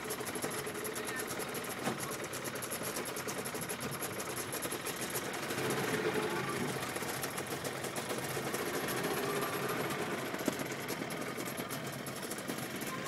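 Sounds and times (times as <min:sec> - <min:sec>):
small boat engine rattling: 0:00.0 - 0:13.0.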